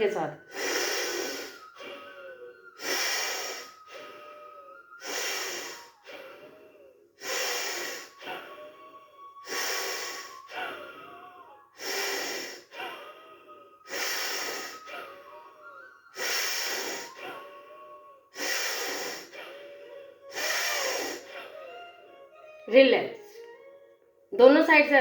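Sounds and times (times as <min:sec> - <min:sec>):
forceful breathing through nostril: 0:00.4 - 0:11.1, 0:11.8 - 0:21.8.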